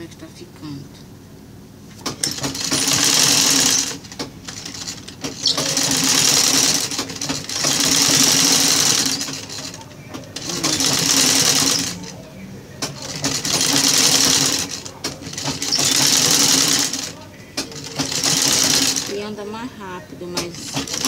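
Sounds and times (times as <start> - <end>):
sewing machine stitching: 2.0 - 12.2, 12.8 - 19.3, 20.4 - 21.0.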